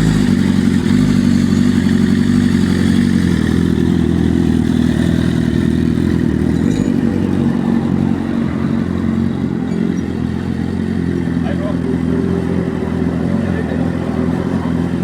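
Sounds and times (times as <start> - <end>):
motorcycle engine running loudly: 0.0 - 15.0.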